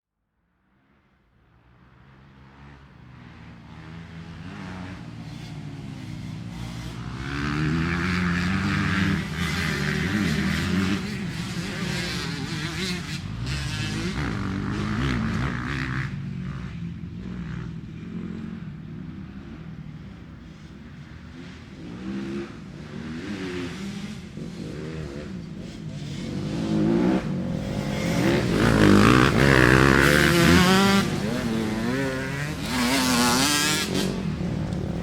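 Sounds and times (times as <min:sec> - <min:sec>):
motorcycle engine revving: 0:02.4 - 0:35.0.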